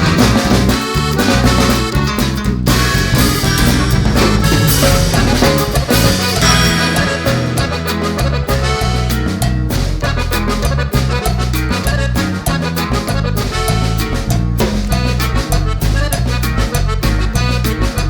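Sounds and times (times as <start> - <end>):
upbeat latin salsa music: 0.0 - 18.0.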